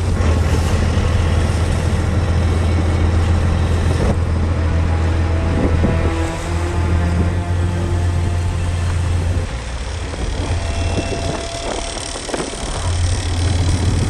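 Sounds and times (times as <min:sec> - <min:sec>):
boat engine droning: 0:00.0 - 0:14.0
sea noise: 0:00.0 - 0:14.0
wind noise: 0:00.0 - 0:14.0.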